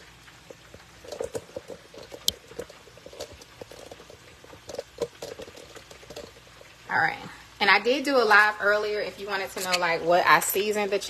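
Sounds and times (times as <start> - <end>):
oil bubbling and crackling: 0.0 - 11.0.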